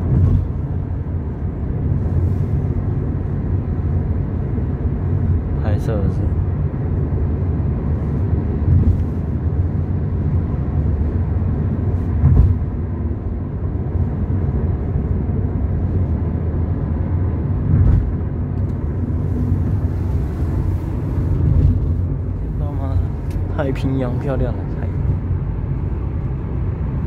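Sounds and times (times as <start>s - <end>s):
car cabin road noise: 0.0s - 27.0s.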